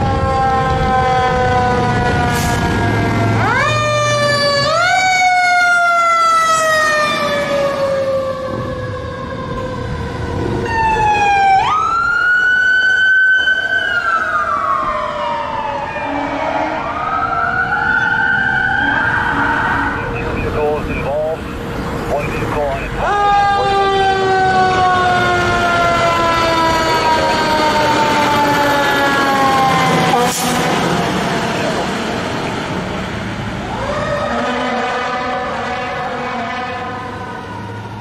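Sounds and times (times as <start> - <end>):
second siren pattern: 0.0 - 32.4, 33.6 - 38.0
fire engine siren wailing: 0.0 - 38.0.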